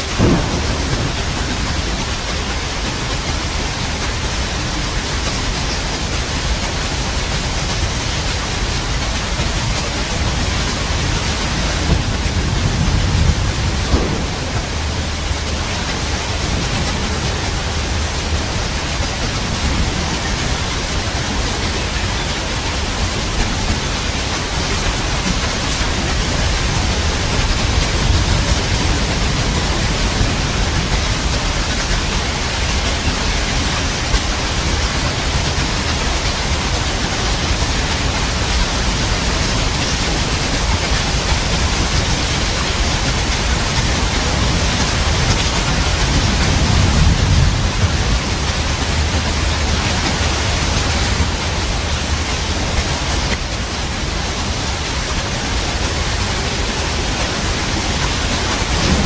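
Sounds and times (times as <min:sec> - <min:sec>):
low rumble of thunder: 0:00.0 - 0:53.3, 0:56.2 - 0:59.0
steady rain hiss: 0:00.0 - 0:59.0.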